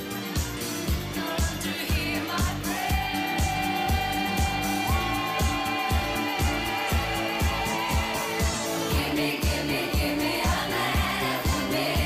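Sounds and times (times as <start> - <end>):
upbeat pop music: 0.0 - 12.0.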